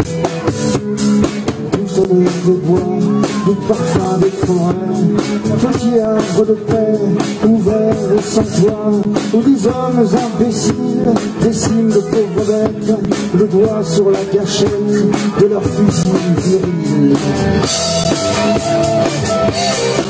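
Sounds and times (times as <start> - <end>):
electric guitar lead with bent notes: 0.0 - 20.0
rock band playing: 0.0 - 20.0.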